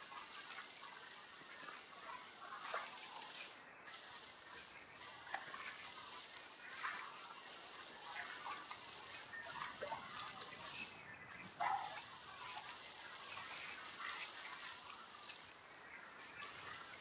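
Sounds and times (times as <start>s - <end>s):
water lapping around kayak: 0.0s - 17.0s.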